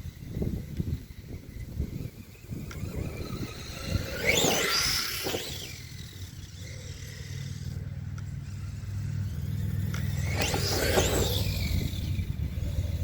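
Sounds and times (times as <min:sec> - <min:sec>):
drivetrain drone: 0:00.0 - 0:13.0
rc truck motor whine: 0:00.0 - 0:13.0.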